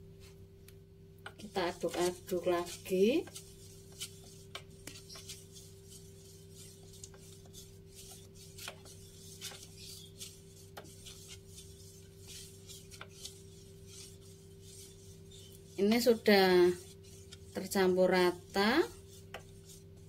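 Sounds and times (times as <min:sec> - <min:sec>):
wooden spoon scraping metal pot: 0:01.3 - 0:20.0.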